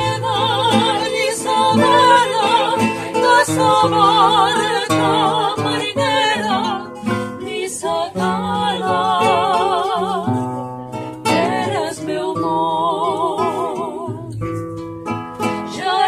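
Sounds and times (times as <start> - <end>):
women singing together: 0.0 - 14.4, 15.6 - 16.0
acoustic guitar: 0.0 - 16.0.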